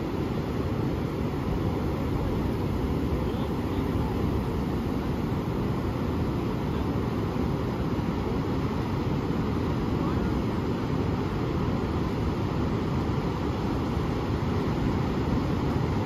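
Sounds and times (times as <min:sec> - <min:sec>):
surf waves washing on beach: 0:00.0 - 0:16.0.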